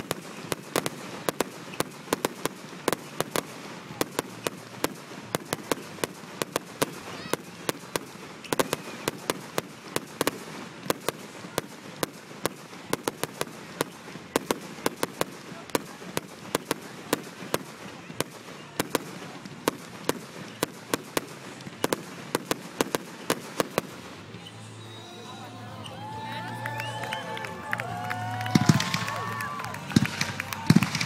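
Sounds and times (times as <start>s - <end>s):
fireworks firing sharp bangs: 0.0s - 24.9s, 28.5s - 31.0s.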